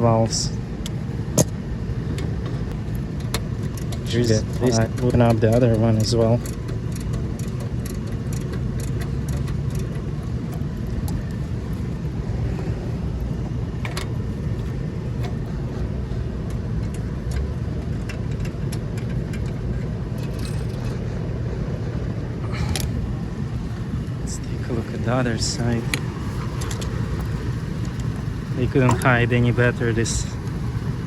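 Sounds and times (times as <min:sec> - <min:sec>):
outdoor background rumble: 0:00.0 - 0:31.0.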